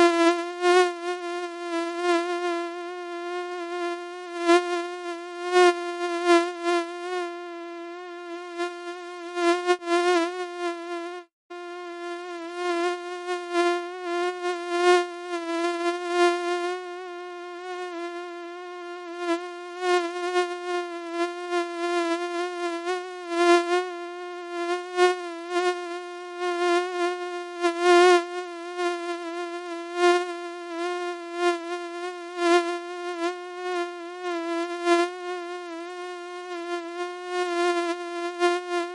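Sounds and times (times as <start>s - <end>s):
mosquito whine: 0.0s - 38.9s.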